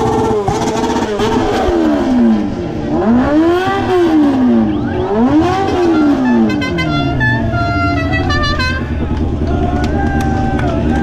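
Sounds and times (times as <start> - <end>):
racing motorcycles passing: 0.0 - 11.0.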